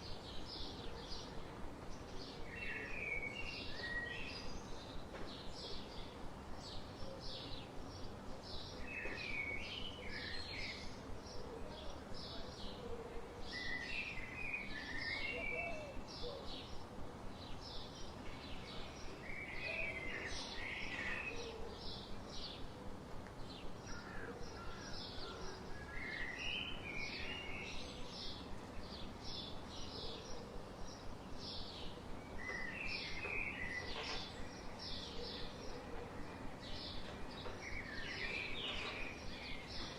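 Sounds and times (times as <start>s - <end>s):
birds chirping: 0.0s - 39.9s
low background hiss: 0.0s - 39.9s.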